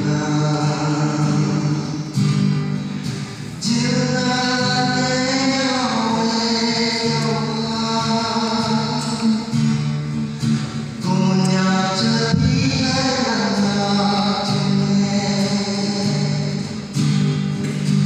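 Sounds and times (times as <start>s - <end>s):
man singing through pa: 0.0s - 18.0s.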